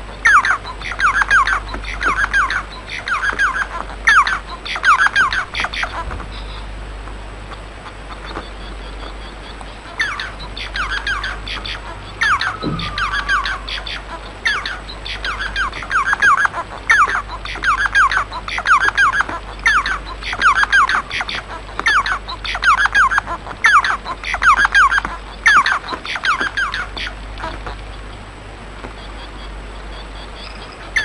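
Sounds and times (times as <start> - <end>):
finch singing: 0.0 - 6.8, 7.4 - 31.0.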